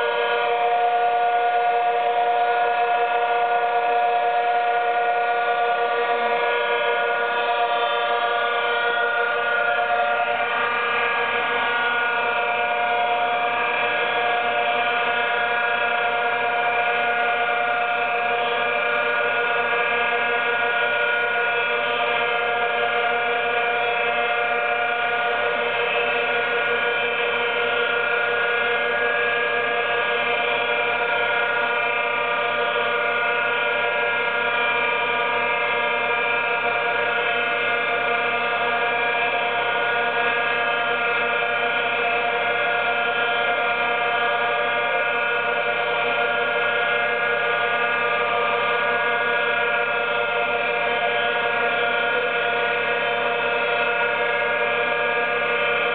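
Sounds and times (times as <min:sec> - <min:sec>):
milling machine droning: 0:00.0 - 0:55.9.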